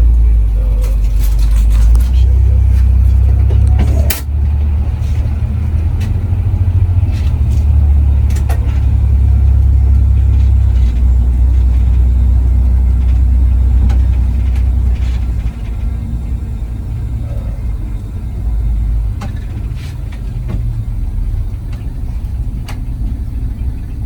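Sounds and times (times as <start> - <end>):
coach engine and road rumble: 0.0 - 24.0
rattles: 0.0 - 24.0.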